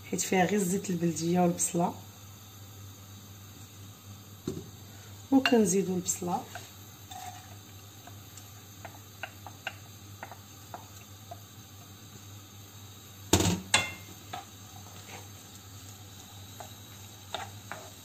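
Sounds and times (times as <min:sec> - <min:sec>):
onion sizzling in oil: 0:00.0 - 0:18.0.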